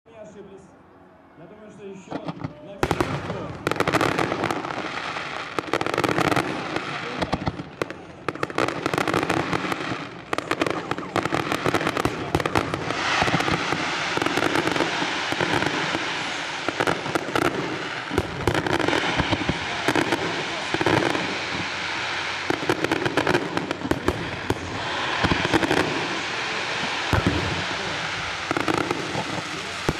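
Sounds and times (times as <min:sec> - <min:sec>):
fireworks popping and crackling: 0:02.1 - 0:29.9.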